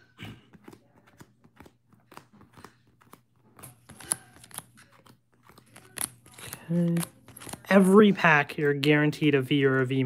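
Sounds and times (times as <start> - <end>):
plastic card sleeves clicking and rustling: 0.5 - 9.8.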